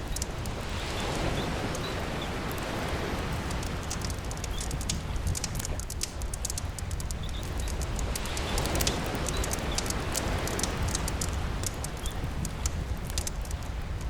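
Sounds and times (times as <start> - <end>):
campfire crackling and popping: 0.0 - 14.0
sea rumble: 0.0 - 14.0
steady rain: 0.0 - 14.0.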